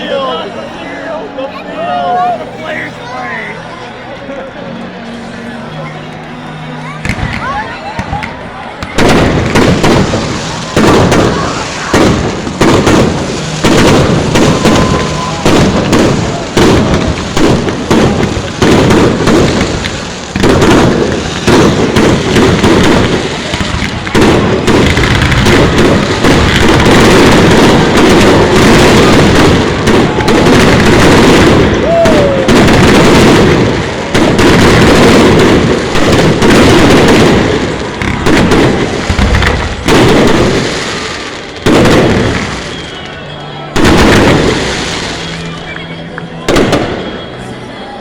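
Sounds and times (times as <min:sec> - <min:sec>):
fireworks booming and crackling: 0:05.2 - 0:48.0.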